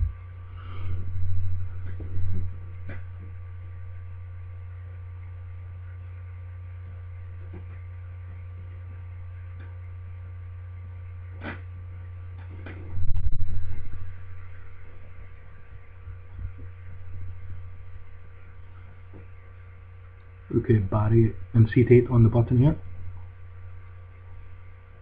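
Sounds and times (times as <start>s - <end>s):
faint thin steady tones: 0.0s - 25.0s
low electrical hum: 0.0s - 25.0s.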